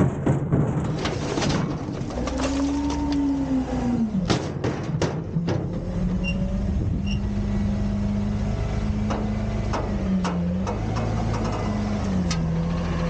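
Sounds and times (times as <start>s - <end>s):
garbage truck diesel engine: 0.0s - 13.0s.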